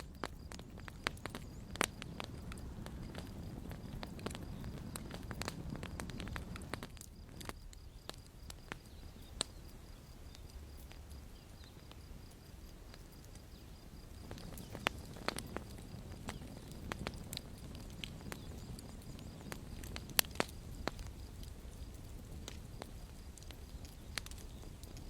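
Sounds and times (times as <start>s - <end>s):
campfire crackling: 0.0s - 25.0s
low rumble of flame: 0.0s - 25.0s.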